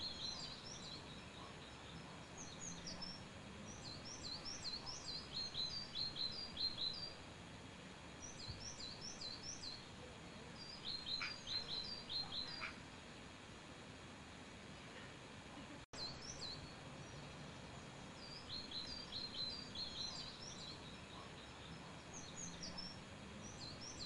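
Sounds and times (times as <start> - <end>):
faint background hiss: 0.0 - 24.0
small birds chirping: 0.0 - 24.0.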